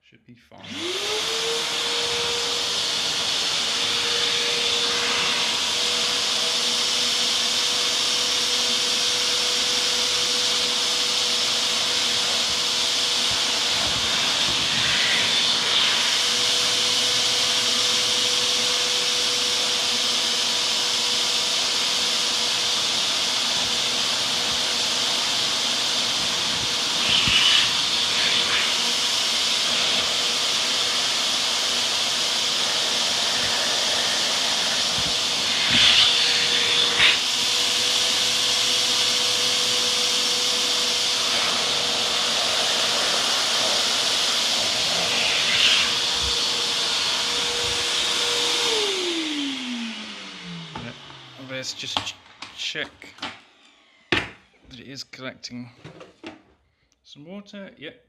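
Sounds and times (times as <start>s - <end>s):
vacuum cleaner motor: 0.6s - 54.7s.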